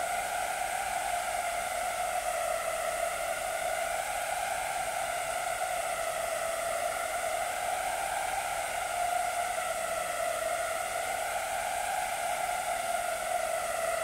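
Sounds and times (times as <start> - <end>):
steady hollow whooshing hiss: 0.0 - 14.0.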